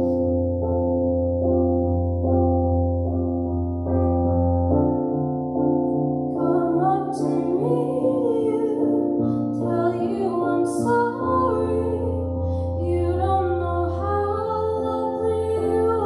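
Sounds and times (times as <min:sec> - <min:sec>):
sustained keyboard chords: 0:00.0 - 0:16.0.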